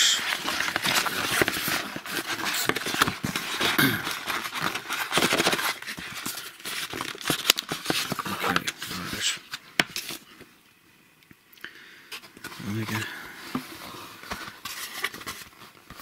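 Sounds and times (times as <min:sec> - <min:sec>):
cardboard scraping and rustling: 0:00.2 - 0:10.3, 0:12.4 - 0:16.0.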